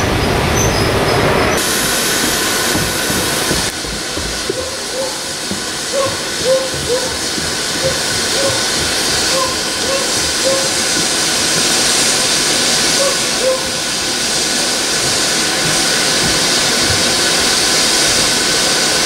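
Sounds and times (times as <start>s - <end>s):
steam hissing: 0.0s - 19.0s
steam train rolling past: 0.0s - 19.0s.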